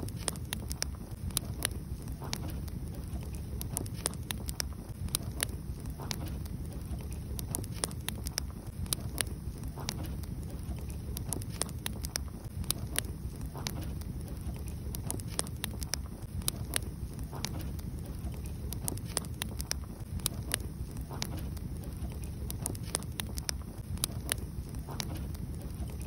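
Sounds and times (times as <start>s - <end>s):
fire flames rushing: 0.0s - 26.0s
wood crackling and popping: 0.0s - 26.0s.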